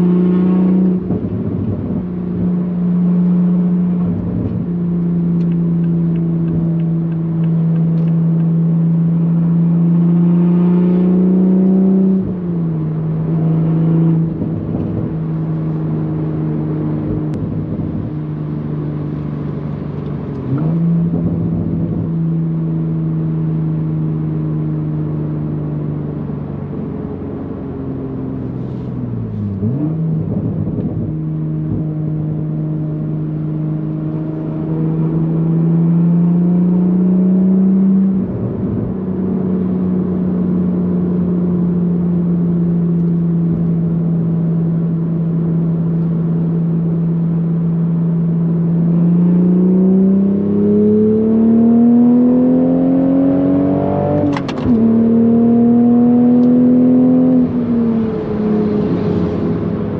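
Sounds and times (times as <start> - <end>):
car engine revving while driving: 0.0 - 59.9.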